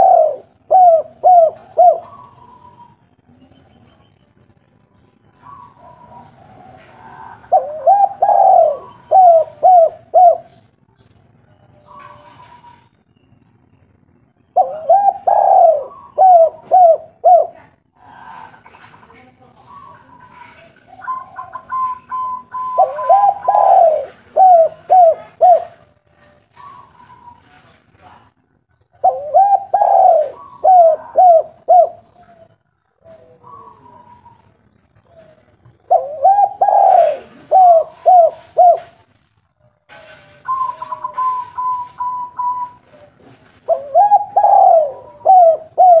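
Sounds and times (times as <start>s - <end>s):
dove cooing: 0.0s - 3.1s, 5.3s - 10.7s, 11.8s - 12.9s, 14.6s - 18.9s, 19.6s - 27.6s, 28.9s - 39.1s, 40.5s - 46.0s.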